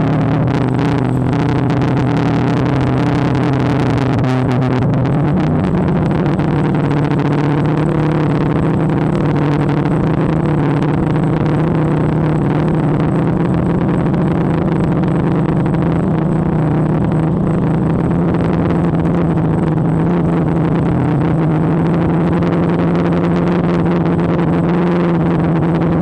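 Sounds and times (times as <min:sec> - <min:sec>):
drone propellers humming: 0:00.0 - 0:26.0.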